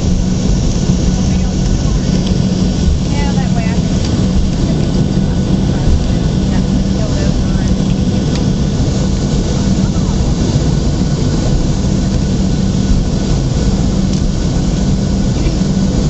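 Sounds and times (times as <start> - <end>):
jet engines roaring in cabin: 0.0 - 16.0.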